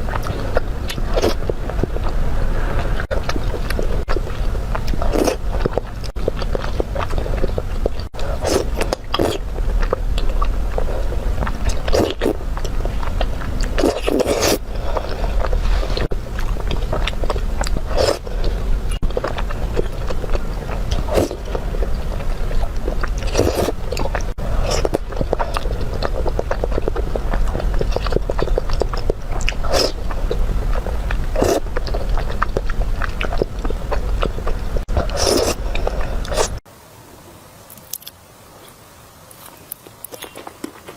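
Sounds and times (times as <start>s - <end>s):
biting and chewing food: 0.0s - 36.6s, 39.3s - 40.9s
steady low hum: 0.0s - 40.9s.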